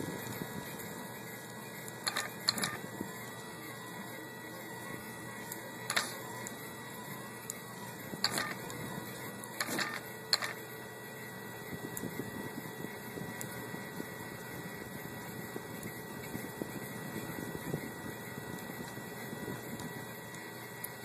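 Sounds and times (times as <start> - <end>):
printer mechanical hum: 0.0 - 21.0.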